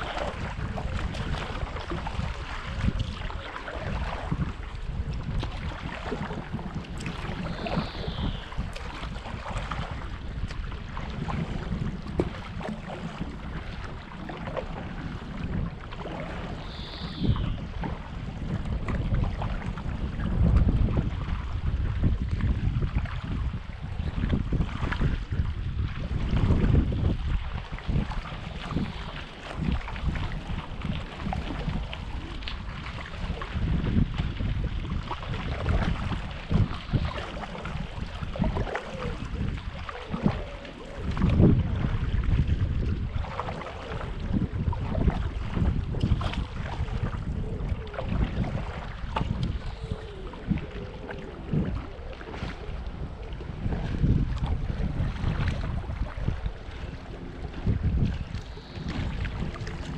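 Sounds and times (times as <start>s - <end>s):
paddle splashing through water: 0.0s - 59.9s
wind on microphone: 0.0s - 59.9s.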